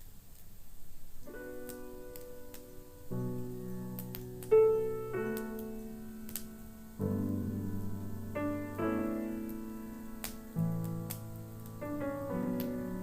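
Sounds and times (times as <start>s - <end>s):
wood fire crackling: 0.0s - 13.0s
slow piano chords: 1.2s - 13.0s.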